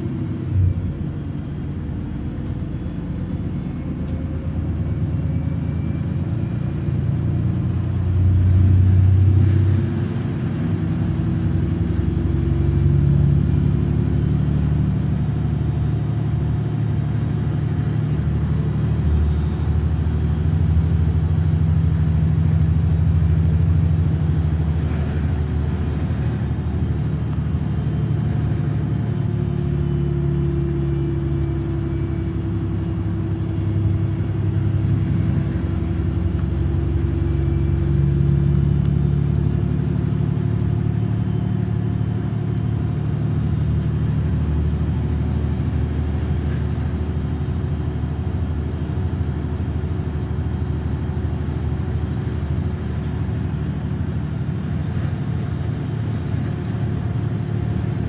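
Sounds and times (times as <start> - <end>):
bus engine idling: 0.0 - 58.0.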